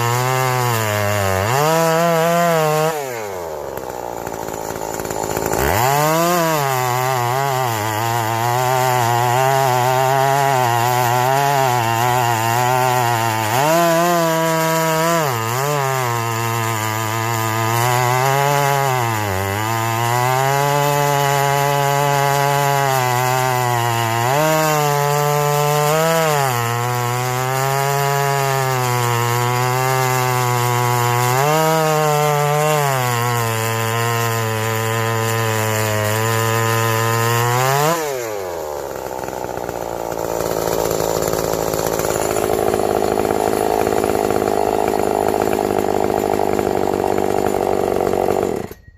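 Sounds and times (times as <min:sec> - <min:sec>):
small engine running at high speed: 0:00.0 - 0:33.5, 0:34.2 - 0:48.9.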